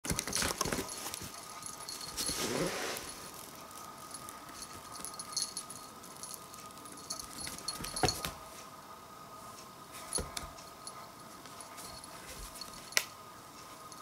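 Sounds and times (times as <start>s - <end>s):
light jingling: 0.1s - 8.4s, 10.0s - 13.2s.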